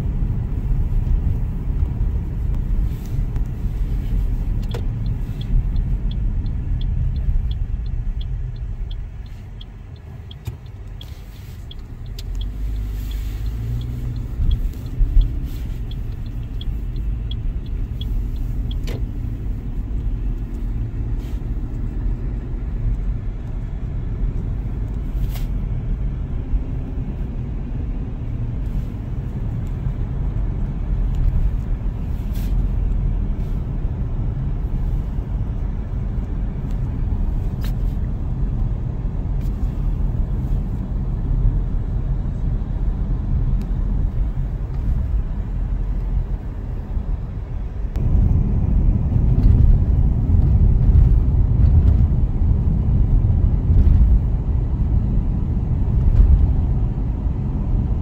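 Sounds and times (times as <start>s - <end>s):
car engine and tyre rumble: 0.0s - 58.0s
turn signal ticking: 0.0s - 58.0s.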